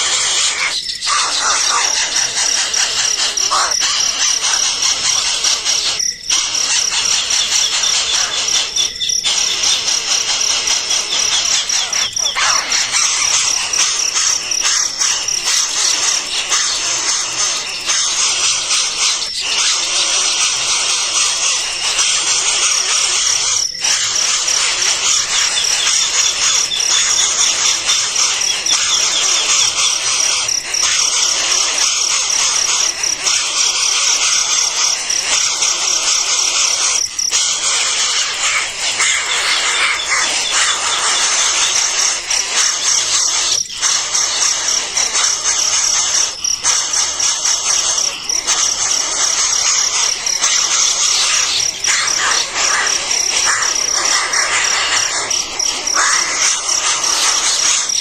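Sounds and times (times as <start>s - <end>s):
fast pulsing trill: 0.0s - 58.0s
insects and birds chirping: 0.0s - 58.0s.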